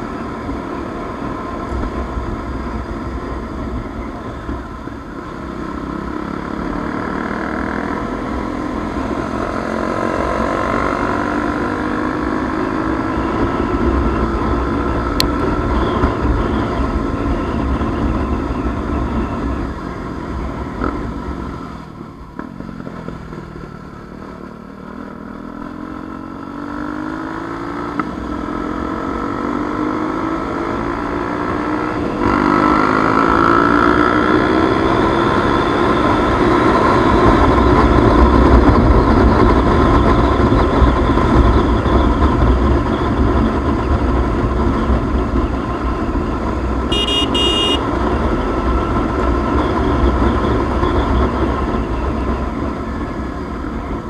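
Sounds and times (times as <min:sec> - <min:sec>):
motorcycle engine: 0:00.0 - 0:54.0
road and wind noise: 0:00.0 - 0:54.0.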